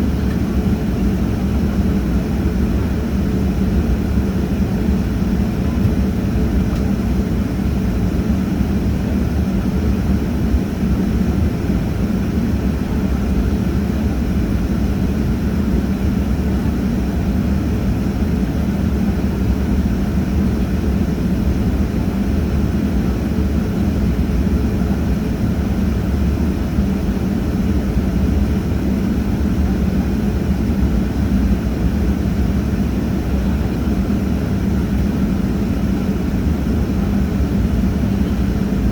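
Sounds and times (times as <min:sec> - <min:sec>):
airliner engines droning: 0:00.0 - 0:38.9.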